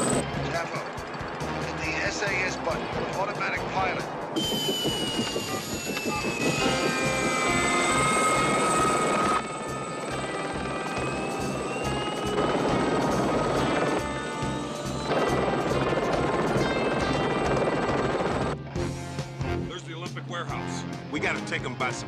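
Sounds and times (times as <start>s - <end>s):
helicopter rotor and turbine: 0.0s - 18.6s
film music score: 0.0s - 22.0s.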